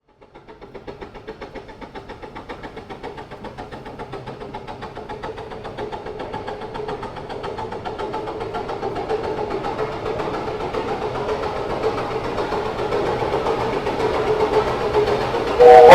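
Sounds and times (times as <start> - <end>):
steam locomotive chuffing: 0.0 - 15.9.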